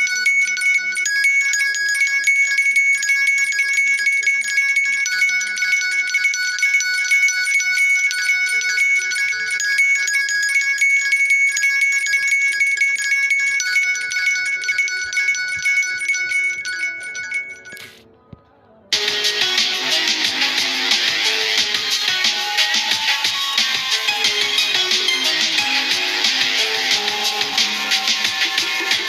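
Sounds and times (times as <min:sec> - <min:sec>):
electronic ringtone melody: 0:00.0 - 0:18.0, 0:18.9 - 0:29.0.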